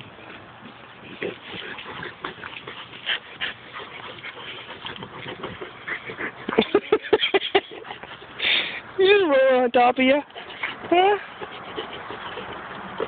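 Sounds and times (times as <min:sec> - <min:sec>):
dogs scuffling and mouthing: 0:00.0 - 0:08.4, 0:09.0 - 0:13.0.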